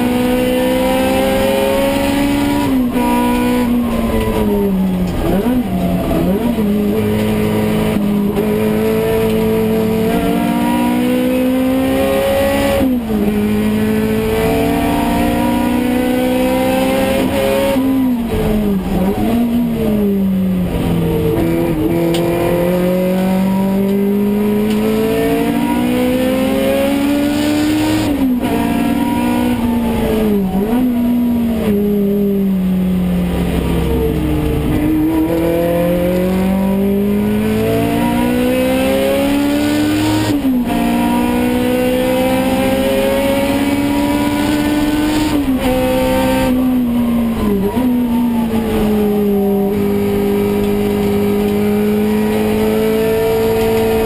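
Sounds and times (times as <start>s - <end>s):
car engine revving hard: 0.0s - 54.0s.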